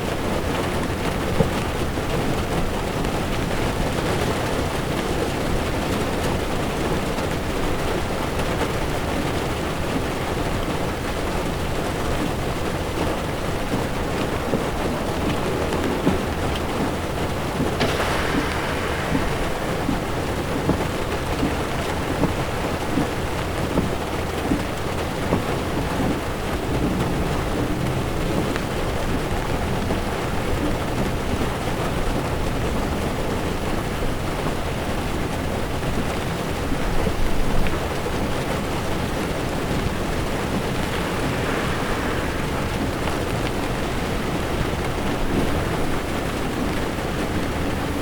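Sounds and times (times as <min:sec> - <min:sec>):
heavy rain on car windshield: 0:00.0 - 0:48.0
tyres rumbling on wet road: 0:00.0 - 0:48.0.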